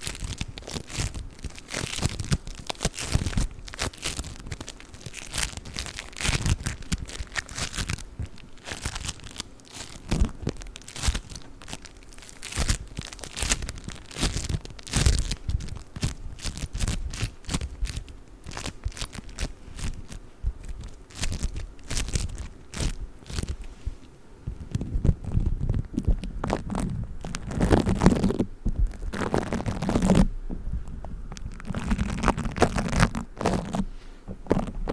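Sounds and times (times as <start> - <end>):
bead foam crackling and crunching: 0.0 - 23.7, 24.5 - 34.9.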